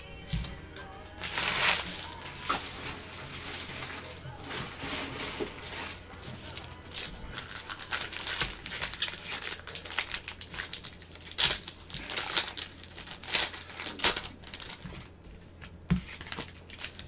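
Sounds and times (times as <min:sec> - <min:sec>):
plastic wrapping crinkling: 0:00.2 - 0:17.0.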